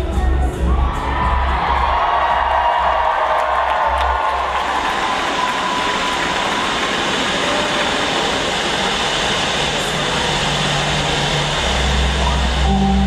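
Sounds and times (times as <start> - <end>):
audience cheering and applauding: 0.6 - 13.0.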